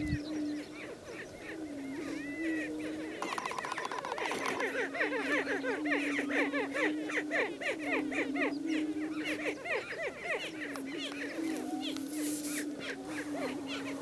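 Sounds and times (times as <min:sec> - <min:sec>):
birds cackling: 0:00.0 - 0:14.0.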